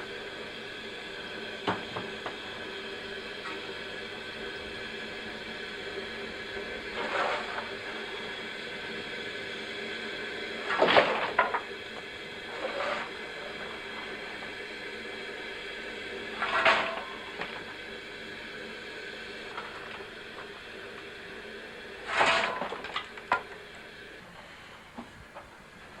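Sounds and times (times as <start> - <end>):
steam locomotive hissing bursts: 0.0 - 26.0
steady background hiss: 2.4 - 26.0.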